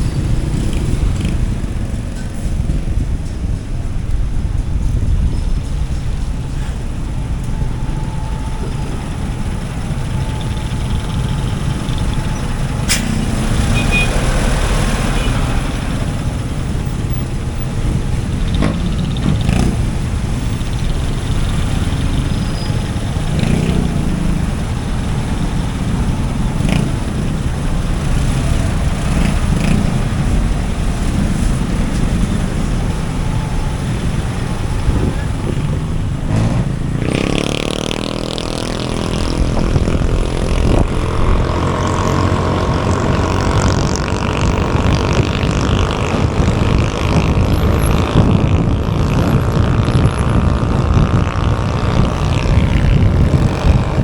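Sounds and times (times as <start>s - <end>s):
motorbike engine and wind rumble: 0.0s - 54.0s.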